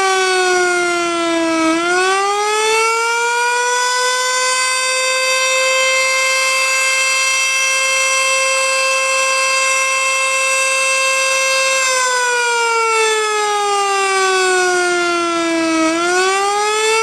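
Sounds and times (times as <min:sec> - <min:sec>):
warning siren: 0:00.0 - 0:17.0.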